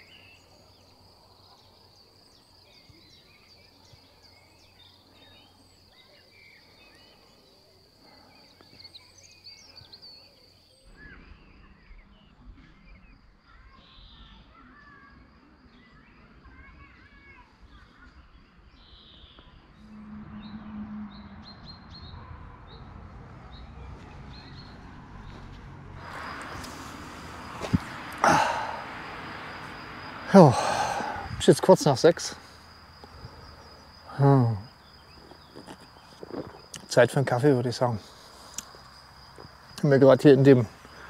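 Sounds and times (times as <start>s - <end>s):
outdoor background noise: 0.0s - 41.0s
songbirds chirping and singing: 0.0s - 41.0s.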